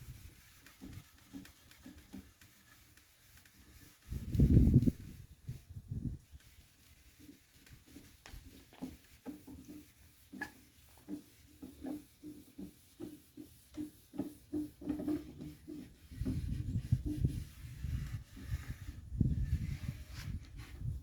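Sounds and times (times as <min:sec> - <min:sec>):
steel wool scrubbing wood: 0:00.0 - 0:21.0.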